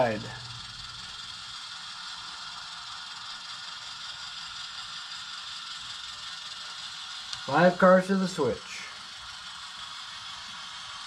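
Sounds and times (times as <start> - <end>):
model train motor whirring: 0.0 - 11.0.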